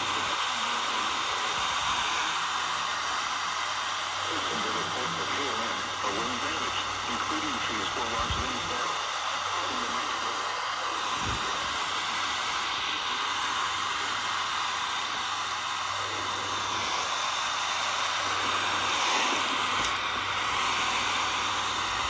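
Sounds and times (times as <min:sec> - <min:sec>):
static hiss: 0:00.0 - 0:22.0.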